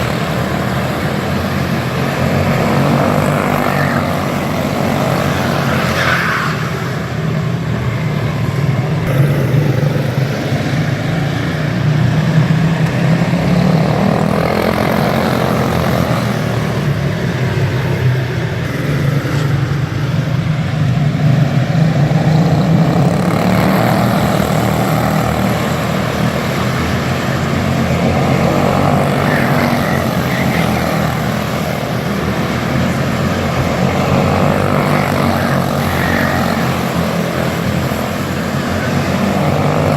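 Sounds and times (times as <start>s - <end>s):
tractor engine at high revs: 0.0s - 39.9s.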